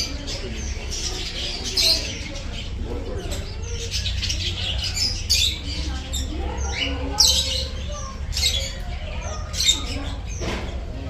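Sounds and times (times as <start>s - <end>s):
birds squawking and chirping: 0.0s - 11.0s.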